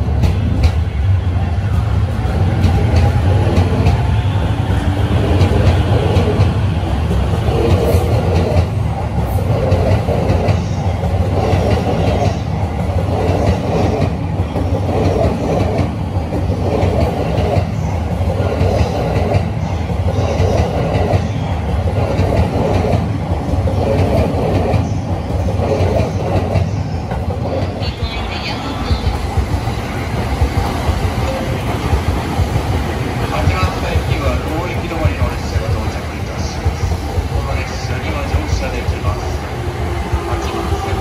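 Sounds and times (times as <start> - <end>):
train wheel clatter: 0.0 - 1.0, 1.7 - 41.0
electric train rumble: 0.0 - 41.0.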